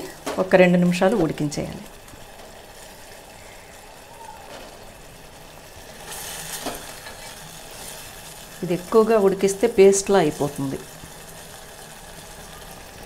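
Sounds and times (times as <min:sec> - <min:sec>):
faint sizzle: 0:00.0 - 0:13.0.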